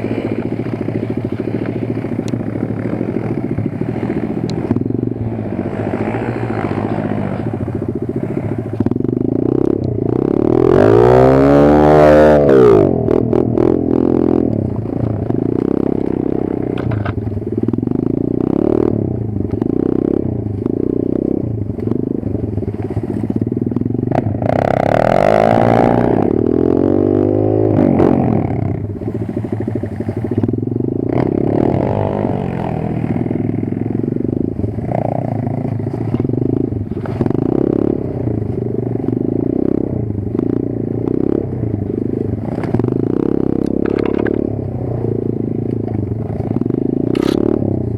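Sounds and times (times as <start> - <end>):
motorbike engine revving: 0.0 - 47.9.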